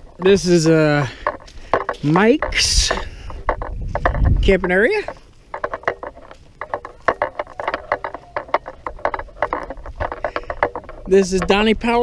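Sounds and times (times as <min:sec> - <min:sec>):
footsteps on dry ground: 0:00.0 - 0:12.0
loose gear knocking: 0:00.0 - 0:12.0.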